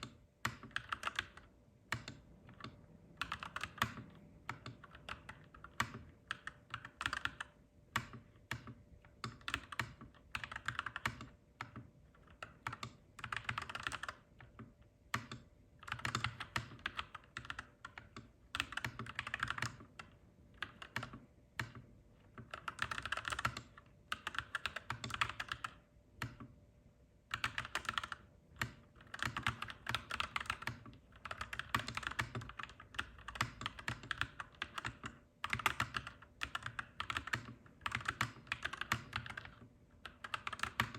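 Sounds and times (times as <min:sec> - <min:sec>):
mechanical keyboard typing: 0:00.0 - 0:26.5, 0:27.3 - 0:40.9.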